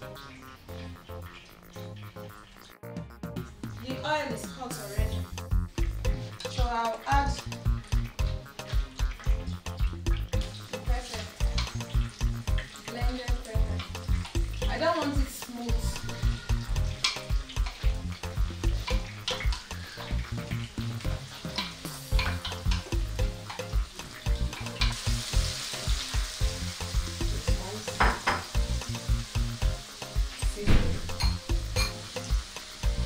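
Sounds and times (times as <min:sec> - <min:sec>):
vegetables sizzling in oil: 0:00.0 - 0:02.9, 0:03.5 - 0:33.0.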